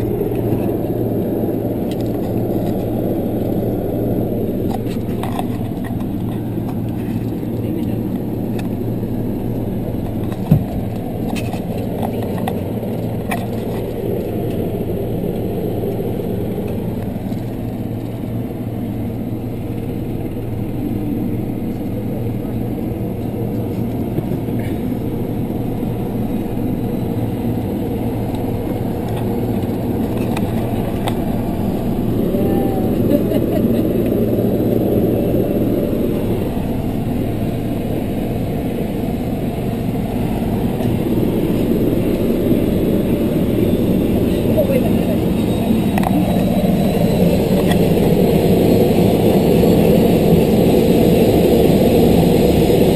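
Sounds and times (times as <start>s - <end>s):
helicopter engine and rotor running: 0.0s - 52.9s.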